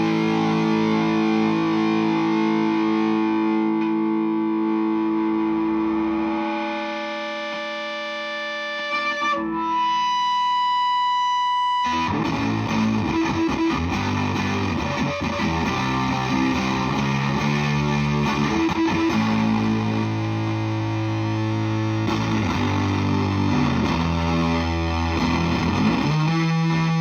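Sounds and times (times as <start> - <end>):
distorted electric guitar: 0.0 - 27.0.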